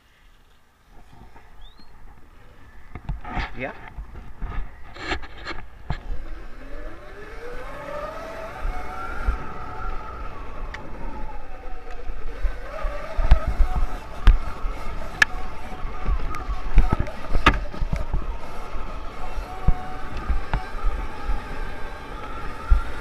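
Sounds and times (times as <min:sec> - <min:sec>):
electric motor whining: 0:04.3 - 0:23.0.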